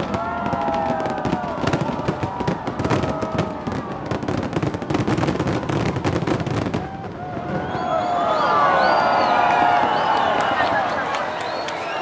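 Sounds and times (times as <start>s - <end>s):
fireworks bangs and pops: 0.0s - 8.1s, 9.4s - 11.4s.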